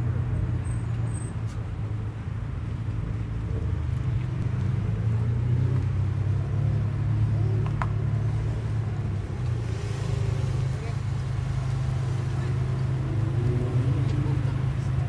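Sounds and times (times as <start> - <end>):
car engines rumbling at low revs: 0.0 - 15.0.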